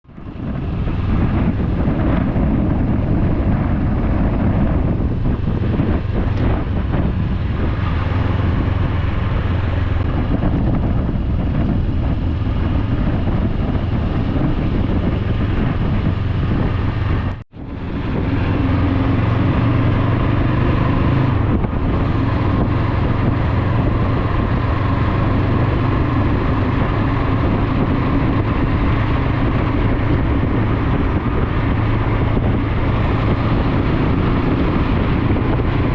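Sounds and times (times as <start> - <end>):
motorcycle engine running: 0.0 - 35.9
wind noise on microphone: 0.0 - 35.9.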